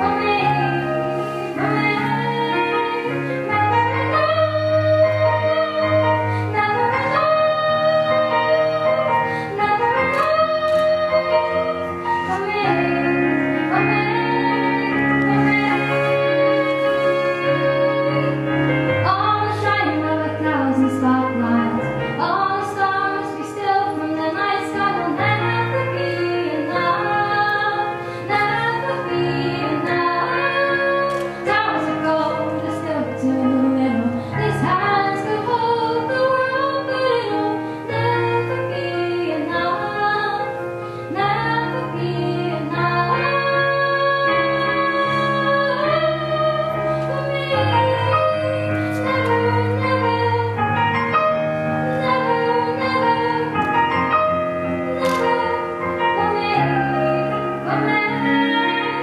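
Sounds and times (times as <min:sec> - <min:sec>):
stage piano: 0:00.0 - 0:59.0
young woman singing: 0:00.0 - 0:59.0.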